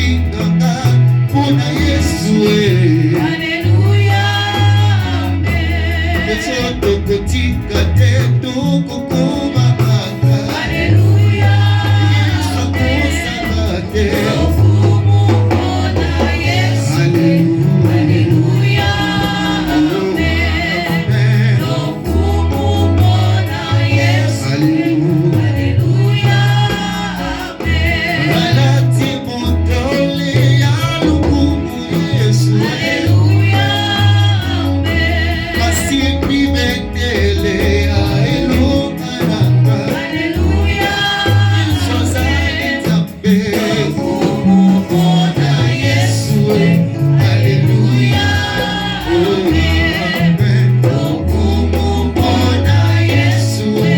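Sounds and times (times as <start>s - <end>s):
band with strong bass: 0.0s - 53.9s
choir singing gospel: 0.0s - 53.9s.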